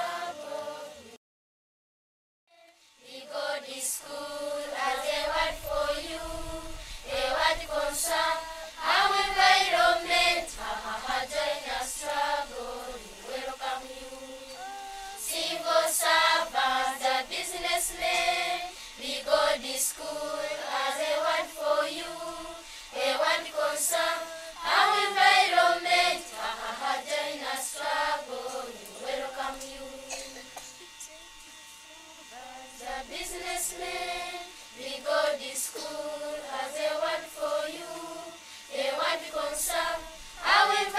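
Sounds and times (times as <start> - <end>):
children singing in chorus: 0.0 - 1.0, 3.0 - 30.3, 32.6 - 40.9.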